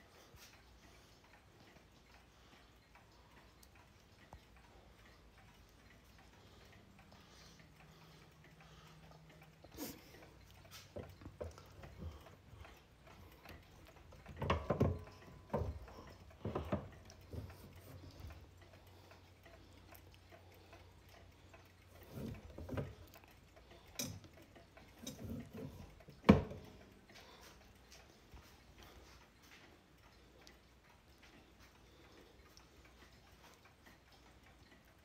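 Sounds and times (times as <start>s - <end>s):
clock ticking: 0.0s - 35.0s.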